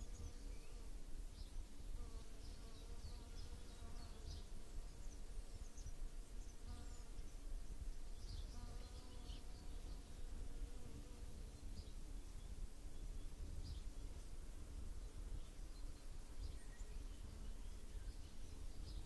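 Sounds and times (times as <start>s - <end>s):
insect buzzing: 0.0s - 19.0s.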